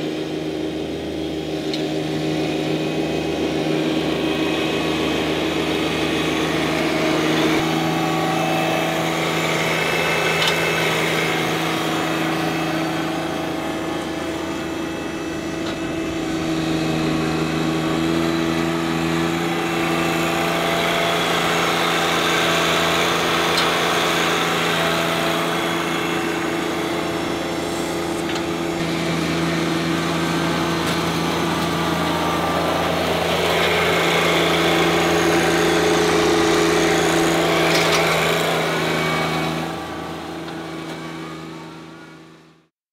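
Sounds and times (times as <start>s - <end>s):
tractor engine running: 0.0s - 42.7s.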